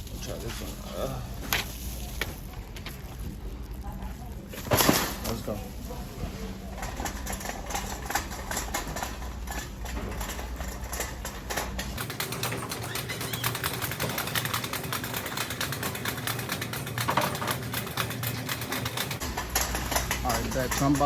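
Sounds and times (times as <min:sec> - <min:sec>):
shopping cart rattling: 0:01.6 - 0:21.0.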